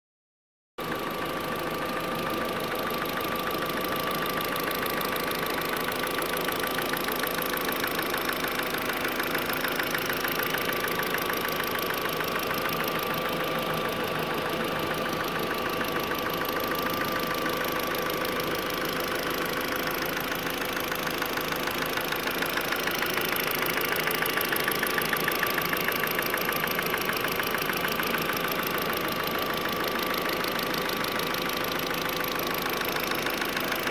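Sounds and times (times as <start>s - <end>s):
engine running: 0.8s - 33.9s.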